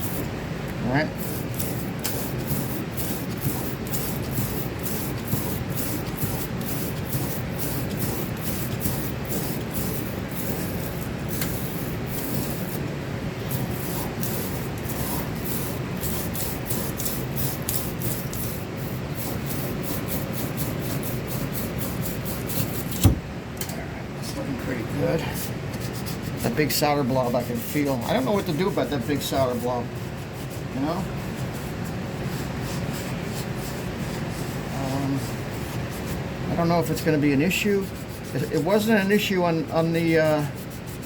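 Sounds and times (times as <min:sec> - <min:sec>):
sanding copper pipe by hand: 0:01.2 - 0:12.8, 0:13.4 - 0:23.1, 0:25.4 - 0:41.0.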